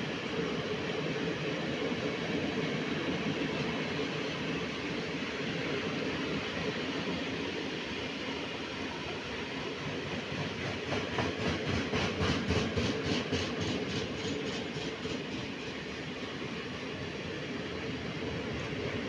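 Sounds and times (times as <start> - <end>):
freight train rolling rumble: 0.0 - 19.0.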